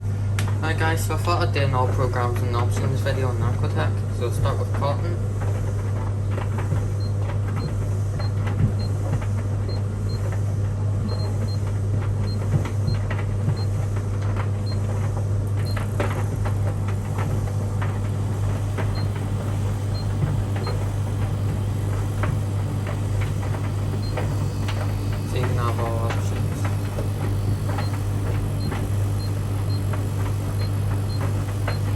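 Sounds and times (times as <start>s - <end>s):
tumble dryer humming: 0.0s - 31.9s.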